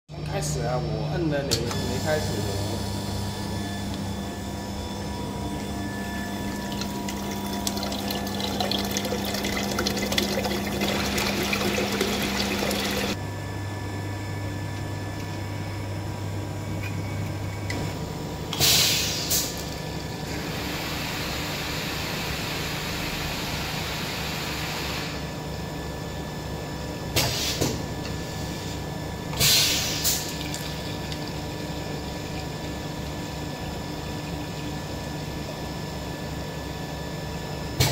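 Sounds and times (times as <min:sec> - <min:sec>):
machine motor and pump hum: 0:00.1 - 0:37.9.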